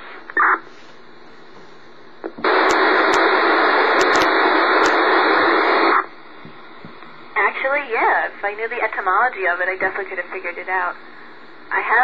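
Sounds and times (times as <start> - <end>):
radio static hiss: 0.0 - 12.0
static crackles: 0.0 - 12.0.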